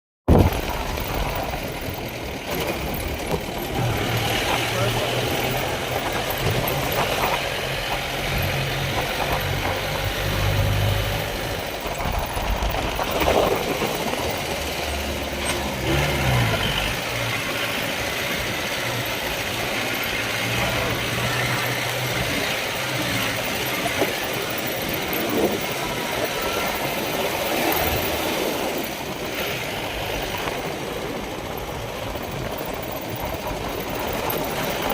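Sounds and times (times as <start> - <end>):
engine low hum: 0.3 - 34.9.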